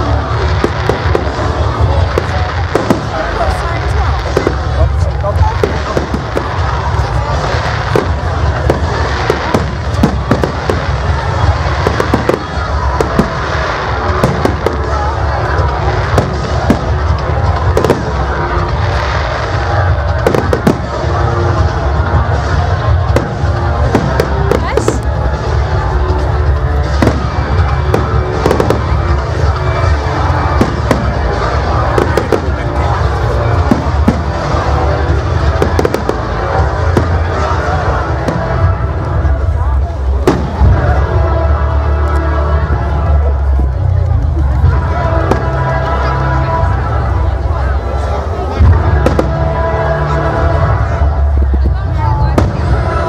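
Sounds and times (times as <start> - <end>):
fireworks bangs: 0.0 - 53.0
fireworks crackling: 0.0 - 53.0.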